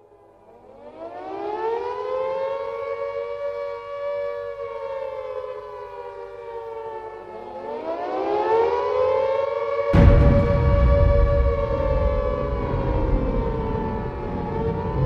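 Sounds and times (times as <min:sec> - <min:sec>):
air-raid siren wailing: 0:00.5 - 0:15.0.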